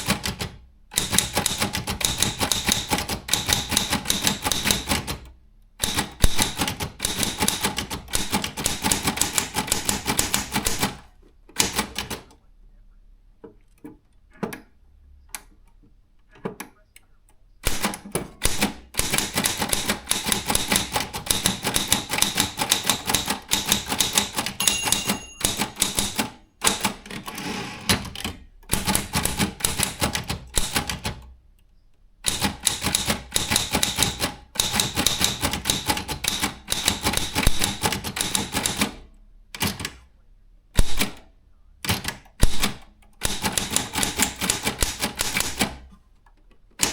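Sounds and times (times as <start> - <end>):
typewriter typing: 0.0 - 12.3, 17.6 - 31.3, 32.2 - 40.0, 40.8 - 41.2, 41.8 - 46.0.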